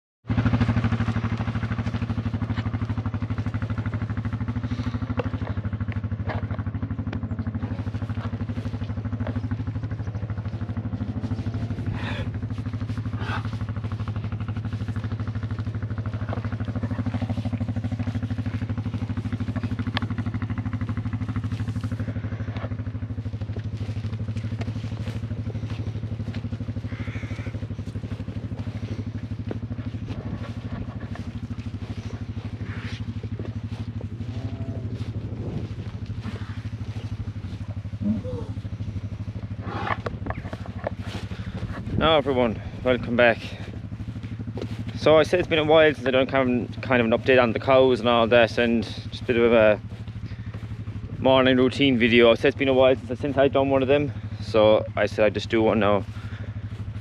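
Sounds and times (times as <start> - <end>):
engine running steadily: 0.2 - 57.0.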